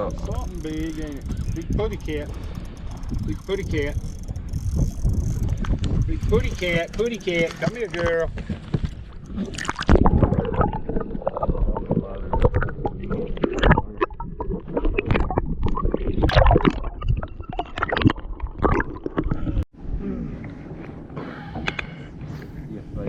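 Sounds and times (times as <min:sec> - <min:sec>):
water splashing: 0:00.0 - 0:19.5.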